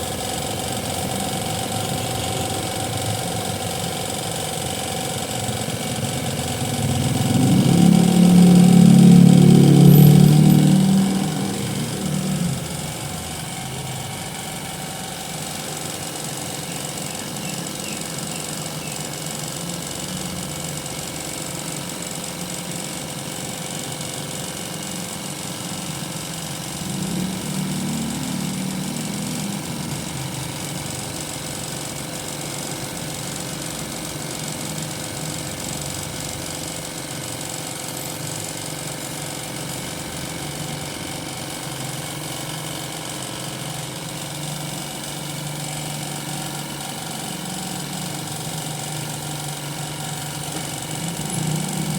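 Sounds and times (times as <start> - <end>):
piston air compressor running: 0.0 - 51.9.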